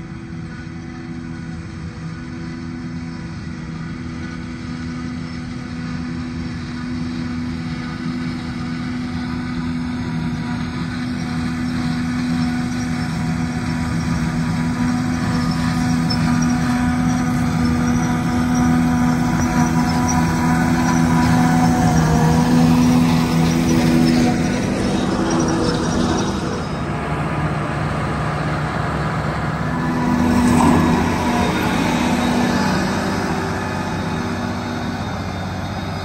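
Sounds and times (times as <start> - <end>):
forage harvester running under load: 0.0 - 36.0.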